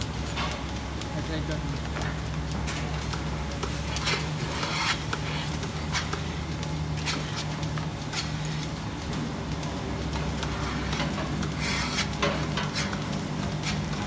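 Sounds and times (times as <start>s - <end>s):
milking machinery humming: 0.0s - 14.0s.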